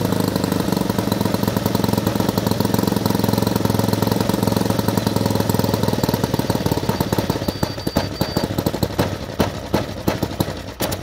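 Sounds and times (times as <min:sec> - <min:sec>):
model engine sputtering out: 0:00.0 - 0:11.0.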